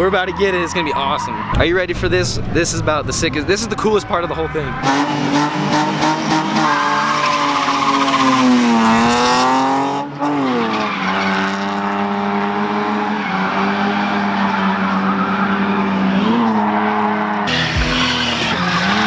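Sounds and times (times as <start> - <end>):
tyres squealing: 0.0 - 9.4, 10.0 - 16.6, 17.5 - 19.0
car engine revving: 0.0 - 19.0.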